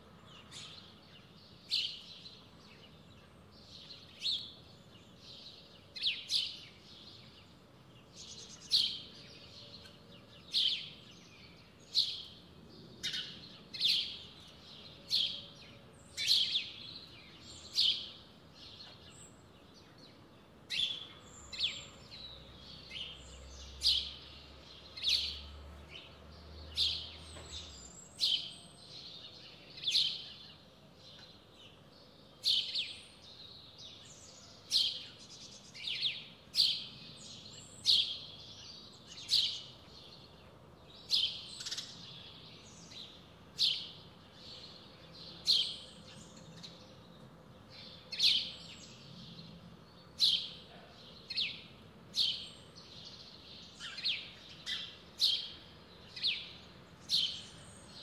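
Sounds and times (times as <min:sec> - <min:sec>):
songbirds calling sharp calls: 0:00.2 - 0:58.0.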